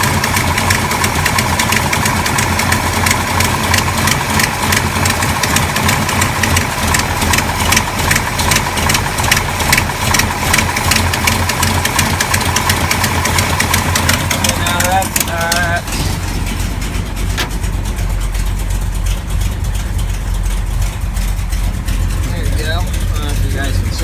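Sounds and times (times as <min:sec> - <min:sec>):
car engine idling unevenly: 0:00.0 - 0:24.0.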